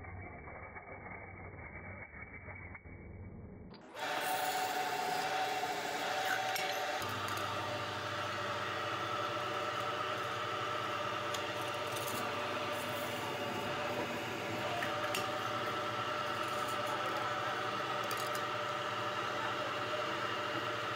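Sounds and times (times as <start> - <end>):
workshop machinery humming: 3.8 - 20.9.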